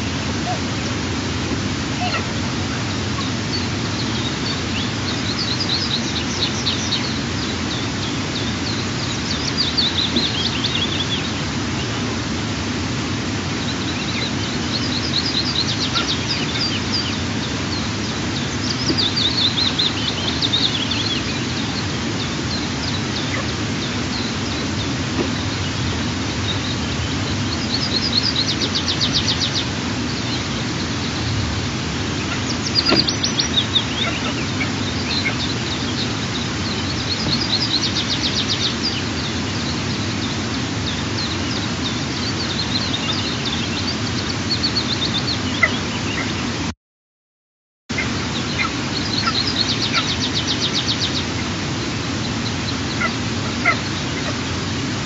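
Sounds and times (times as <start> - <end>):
low rushing background noise: 0.0 - 46.7, 47.9 - 55.0
songbird trilling: 2.0 - 12.0, 13.6 - 31.4, 32.0 - 46.4, 48.0 - 51.4.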